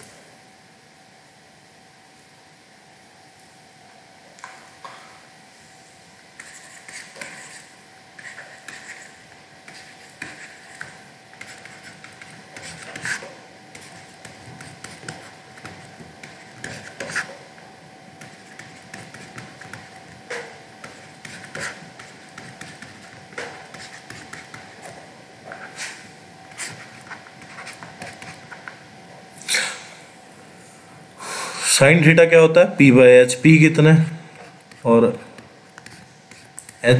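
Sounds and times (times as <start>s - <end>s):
faint hum: 0.0s - 36.9s.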